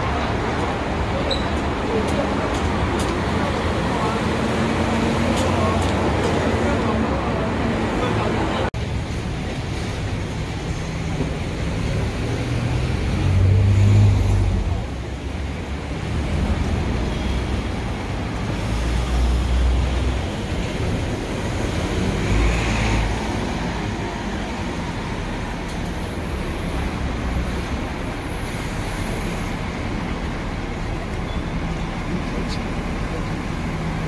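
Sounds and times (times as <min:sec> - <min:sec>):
bus engine passing: 0:00.0 - 0:34.0
city street traffic: 0:00.0 - 0:34.0.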